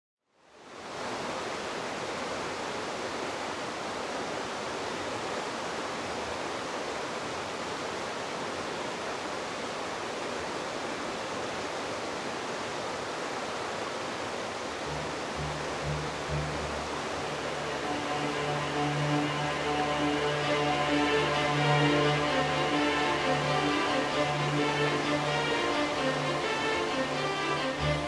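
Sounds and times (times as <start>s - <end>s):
river rushing over rocks: 0.6s - 28.0s.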